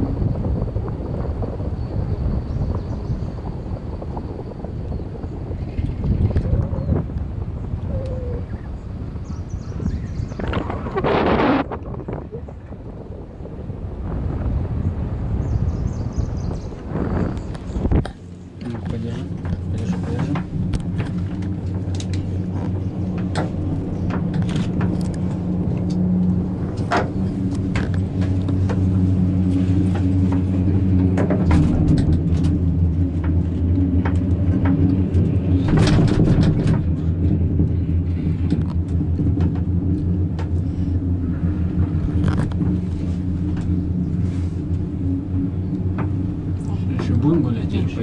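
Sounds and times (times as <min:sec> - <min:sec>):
cable car cabin rumble and hum: 0:00.0 - 0:48.0.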